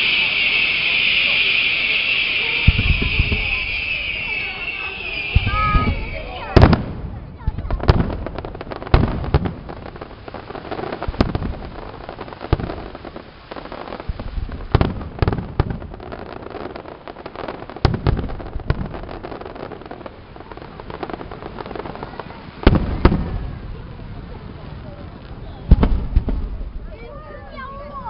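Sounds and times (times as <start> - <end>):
firework shells booming: 0.0 - 24.0, 24.6 - 26.9
fireworks crackling hiss: 0.0 - 28.0.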